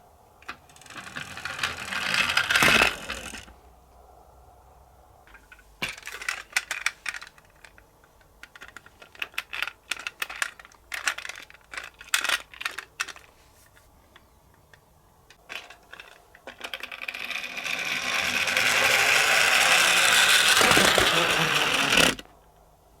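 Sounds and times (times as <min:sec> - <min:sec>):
toy cars clattering on plastic: 0:00.4 - 0:03.6, 0:05.3 - 0:22.4
toy cars rolling: 0:00.4 - 0:03.6, 0:05.2 - 0:22.5.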